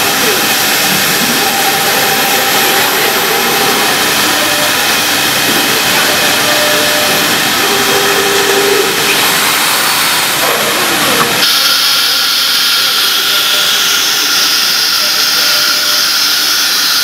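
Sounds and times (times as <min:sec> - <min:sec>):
cnc router whirring: 0:00.0 - 0:17.0.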